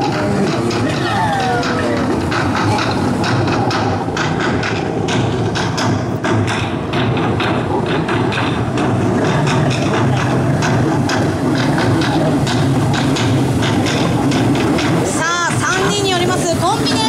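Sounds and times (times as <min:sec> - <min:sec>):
background music with drum beat: 0:00.0 - 0:17.0
jet ski engines droning: 0:00.0 - 0:17.0.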